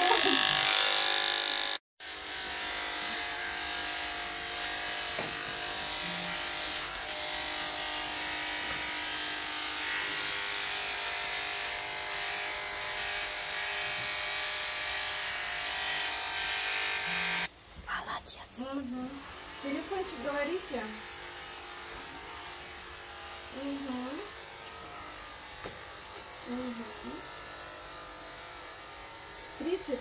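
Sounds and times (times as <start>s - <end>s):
electric hair clippers buzzing: 0.0s - 17.5s, 19.0s - 30.0s.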